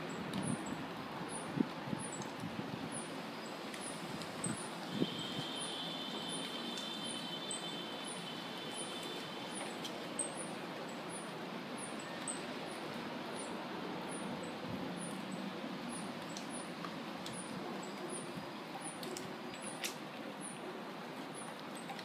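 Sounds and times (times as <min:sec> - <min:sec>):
leaves rustling in the wind: 0:00.0 - 0:22.0.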